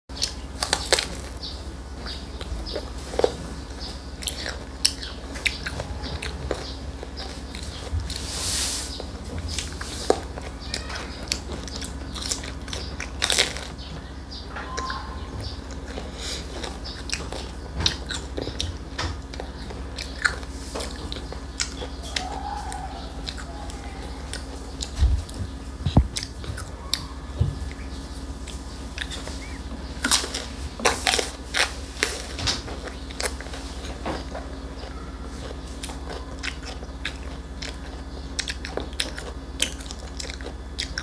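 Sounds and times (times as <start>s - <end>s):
child chewing sandwich: 0.1s - 41.0s.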